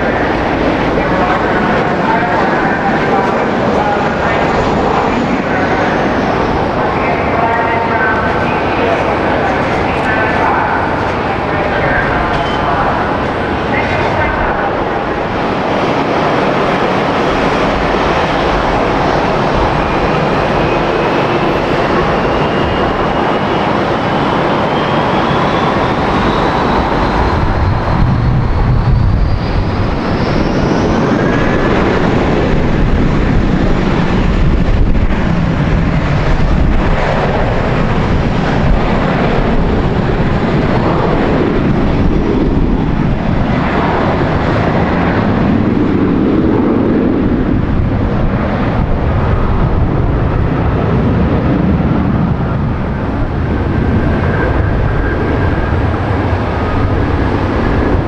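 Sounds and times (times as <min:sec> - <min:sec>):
jet engines rumbling and whining: 0:00.0 - 0:58.0.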